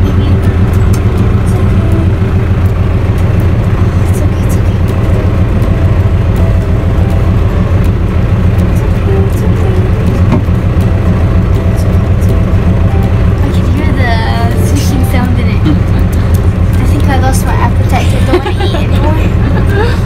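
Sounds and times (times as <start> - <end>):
faint voices: 0.0 - 7.5, 8.1 - 20.0
loud motor drone: 0.0 - 20.0.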